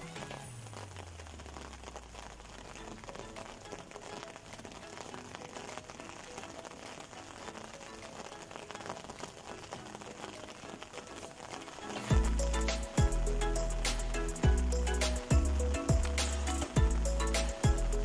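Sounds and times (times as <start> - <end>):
faint music: 0.0 - 18.0
rain pattering: 0.0 - 18.0.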